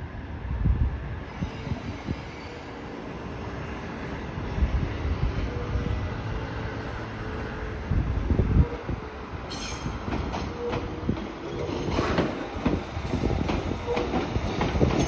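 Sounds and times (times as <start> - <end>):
train wheels rumbling on rails: 0.3 - 15.0.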